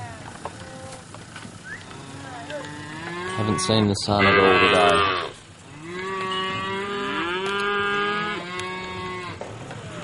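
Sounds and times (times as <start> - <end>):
cattle mooing: 0.5 - 1.1, 1.7 - 10.0.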